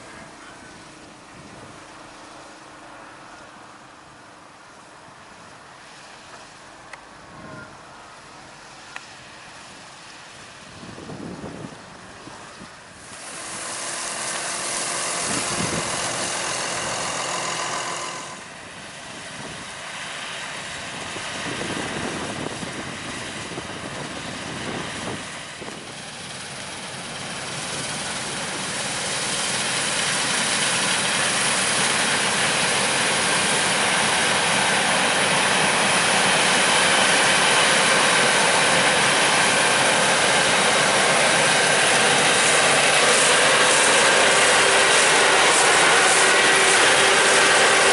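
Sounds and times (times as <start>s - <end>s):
harvest machinery running: 8.3s - 47.9s.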